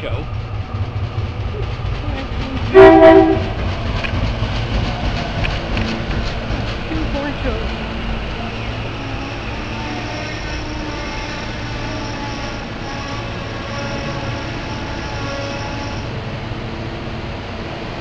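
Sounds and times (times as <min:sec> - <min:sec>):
electric train whine: 0:00.0 - 0:18.0
low train rumble: 0:00.0 - 0:18.0.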